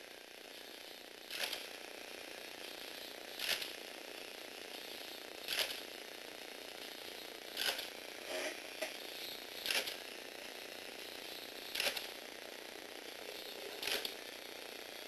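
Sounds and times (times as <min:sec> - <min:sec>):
small gearbox motor running: 0:00.9 - 0:01.8, 0:02.5 - 0:05.9, 0:06.8 - 0:14.7.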